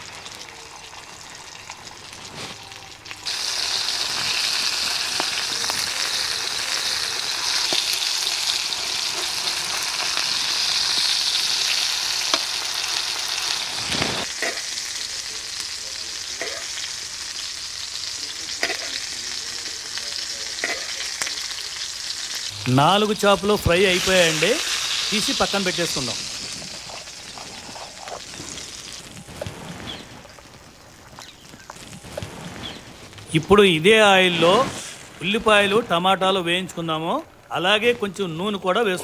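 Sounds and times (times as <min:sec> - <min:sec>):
fish sizzling in oil: 0:00.0 - 0:35.9.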